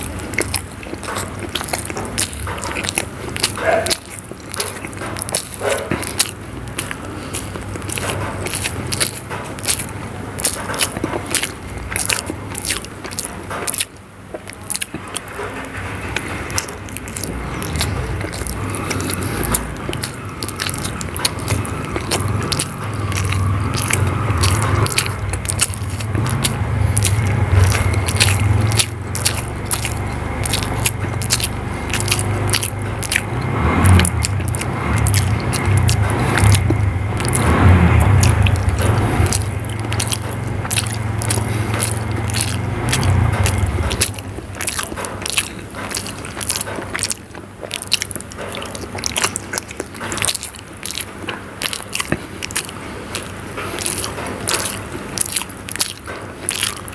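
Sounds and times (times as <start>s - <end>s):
chewing and biting food: 0.0s - 56.9s
mouth clicks: 0.0s - 56.9s.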